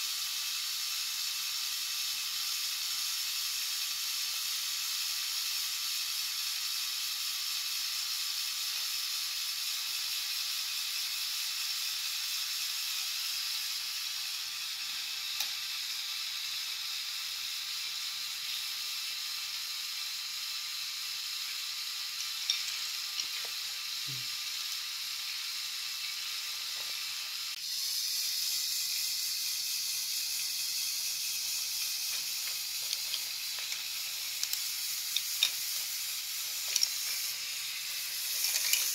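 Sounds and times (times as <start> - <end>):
toy motor driving plastic gears: 0.0 - 38.9.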